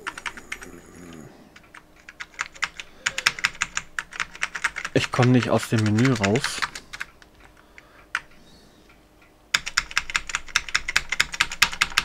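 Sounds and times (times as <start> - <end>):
keyboard keys clicking: 0.0 - 0.7, 1.6 - 8.4, 9.2 - 12.0.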